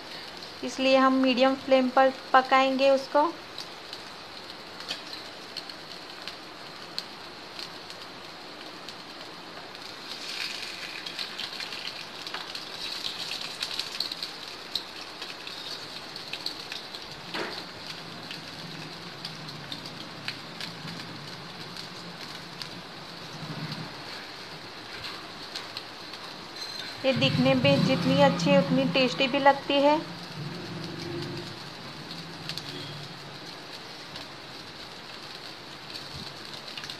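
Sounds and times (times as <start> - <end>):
patties sizzling in hot oil: 0.0 - 36.9.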